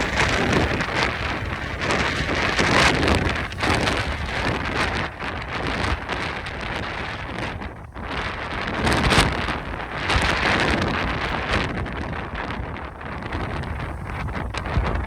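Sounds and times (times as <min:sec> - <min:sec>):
strong wind gusting: 0:00.0 - 0:15.0
wind buffeting microphone: 0:00.0 - 0:15.0.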